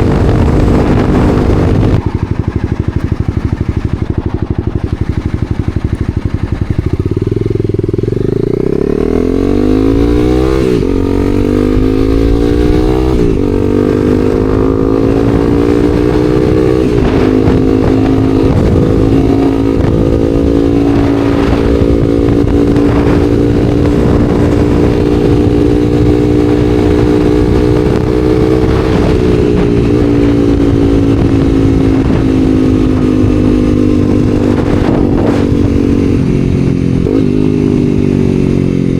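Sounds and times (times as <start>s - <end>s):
wind rushing: 0.0s - 5.4s, 7.4s - 38.5s
motorcycle engine accelerating: 0.0s - 38.9s.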